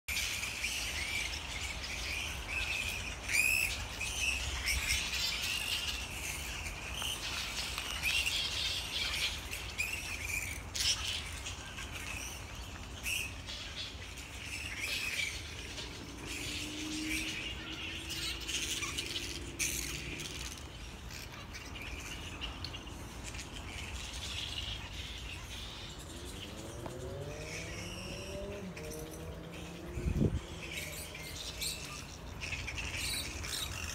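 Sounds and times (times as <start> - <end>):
bats screeching and chirping: 0.1 - 33.9.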